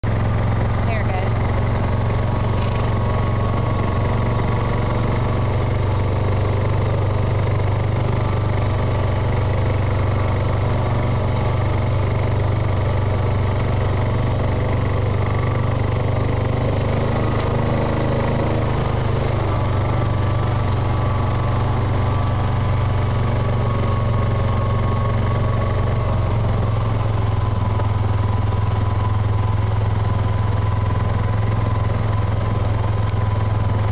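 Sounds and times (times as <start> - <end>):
engine running at low speed: 0.0 - 33.9.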